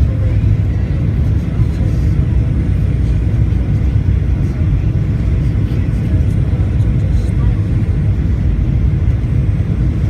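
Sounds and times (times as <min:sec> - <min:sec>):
jet engine rumble and airflow: 0:00.0 - 0:10.0.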